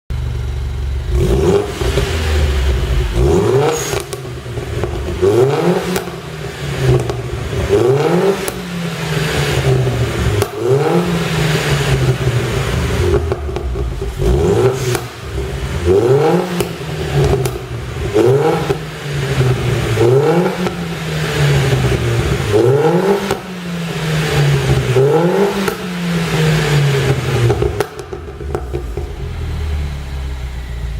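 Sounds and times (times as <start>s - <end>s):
car engine revving: 0.1s - 30.9s
exhaust popping and crackling: 0.1s - 30.9s.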